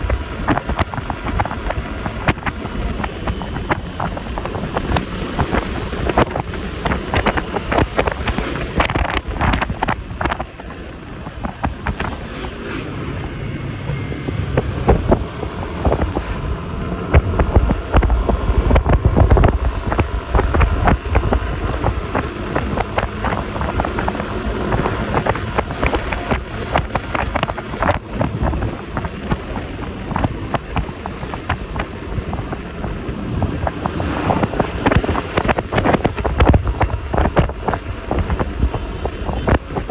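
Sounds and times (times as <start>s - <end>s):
road and traffic noise: 0.0s - 39.9s
scooter engine: 0.0s - 39.9s
wind buffeting microphone: 0.0s - 39.9s.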